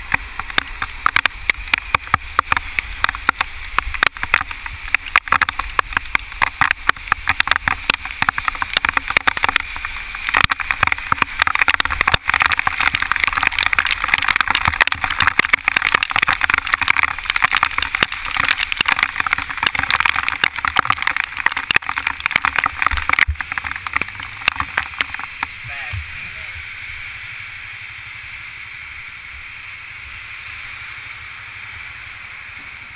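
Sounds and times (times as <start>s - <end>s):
rain and wet road spray hiss: 0.0s - 32.9s
raindrops striking camera housing: 0.0s - 32.9s.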